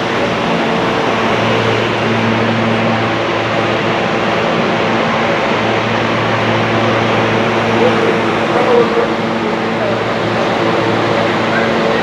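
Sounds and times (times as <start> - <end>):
low hum: 0.0 - 12.0
train running noise: 0.0 - 12.0.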